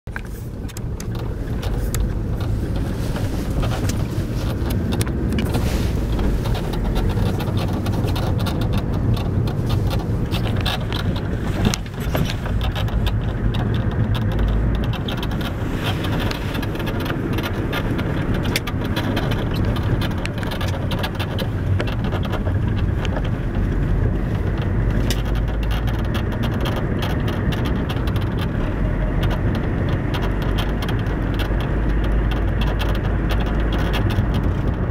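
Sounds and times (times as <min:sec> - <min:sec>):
low road rumble: 0:00.0 - 0:34.9
suspension strut creaking: 0:00.1 - 0:34.9.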